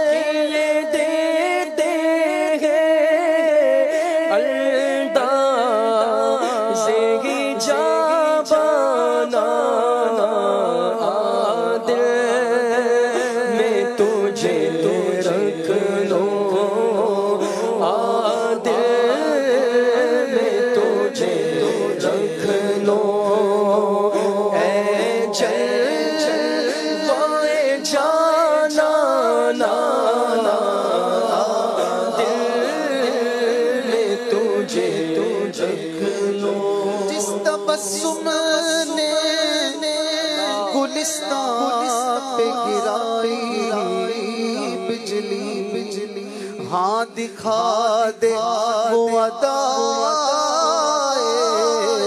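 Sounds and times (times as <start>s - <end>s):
song with singing voice: 0.0s - 52.0s.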